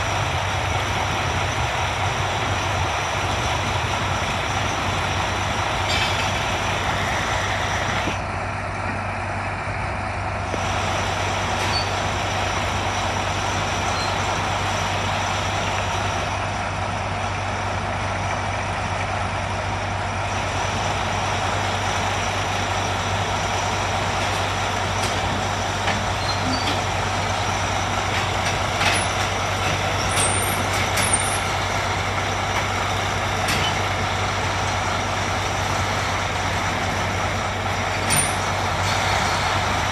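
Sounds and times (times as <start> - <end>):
diesel engines running under load: 0.0 - 39.9.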